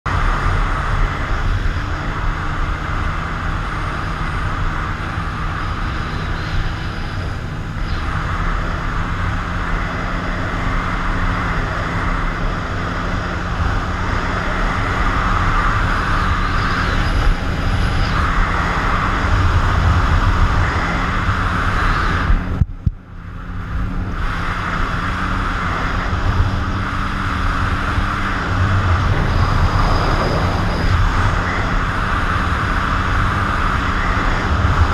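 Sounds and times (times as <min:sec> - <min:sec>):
jet ski engine running: 0:00.1 - 0:34.9
wind buffeting microphone: 0:00.1 - 0:34.9.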